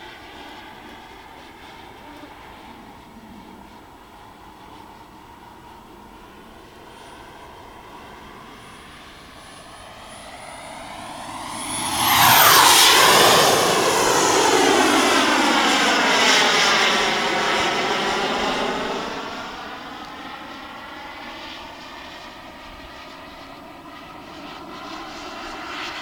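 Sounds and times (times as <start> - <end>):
model jet turbine whine flying past: 0.0 - 26.0.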